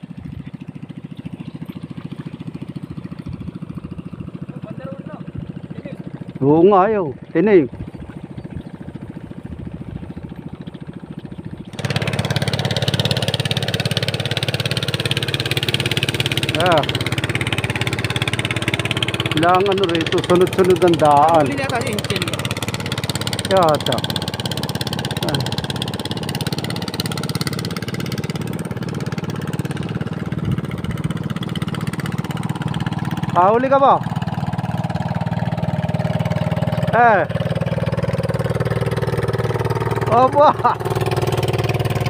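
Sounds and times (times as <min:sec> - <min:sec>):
boat engine chugging: 0:00.0 - 0:42.0.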